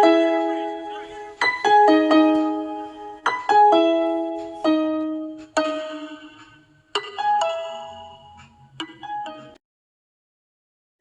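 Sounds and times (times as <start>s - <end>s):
keyboard melody: 0.0s - 9.6s.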